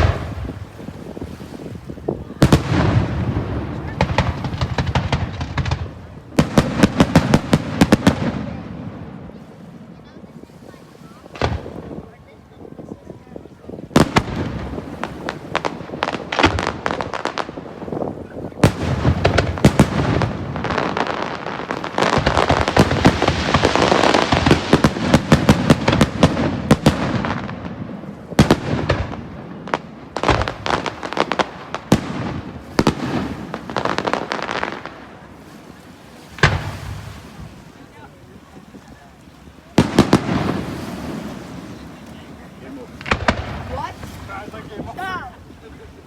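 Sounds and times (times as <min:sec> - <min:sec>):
fireworks bursting: 0:00.0 - 0:10.0, 0:11.3 - 0:12.2, 0:13.8 - 0:37.8, 0:39.6 - 0:45.2
fireworks crackling: 0:00.0 - 0:10.3, 0:11.2 - 0:46.0.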